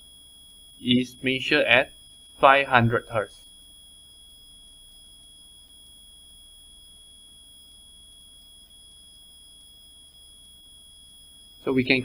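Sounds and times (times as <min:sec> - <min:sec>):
high-pitched whine: 0:00.8 - 0:12.0.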